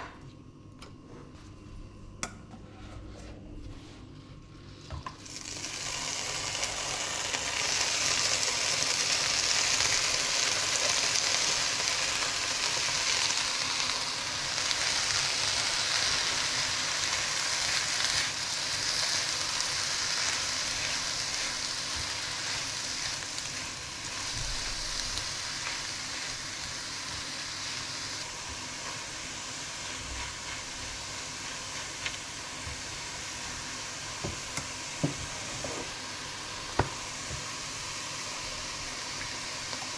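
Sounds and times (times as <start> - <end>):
spinach sizzling in a frying pan: 4.7 - 39.9.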